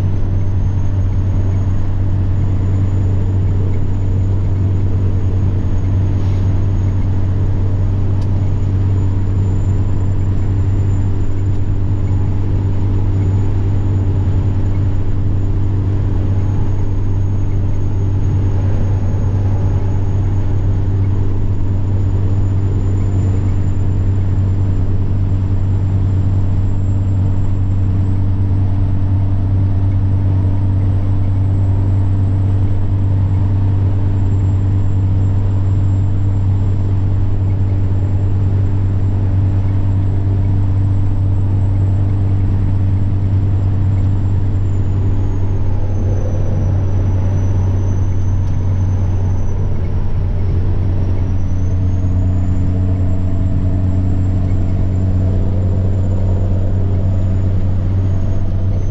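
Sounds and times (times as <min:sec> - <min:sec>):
truck diesel engine droning: 0:00.0 - 0:58.9
turbocharger whine: 0:00.0 - 0:58.9.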